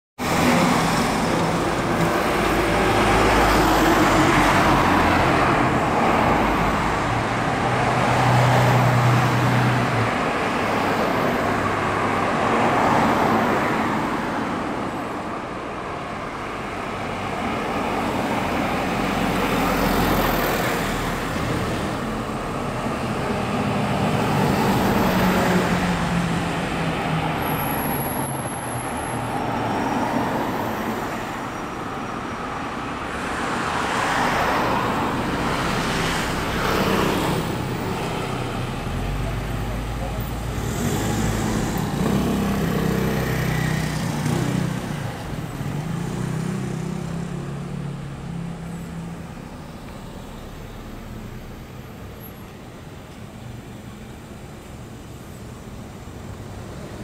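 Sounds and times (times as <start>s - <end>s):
vehicles passing: 0.2s - 57.0s.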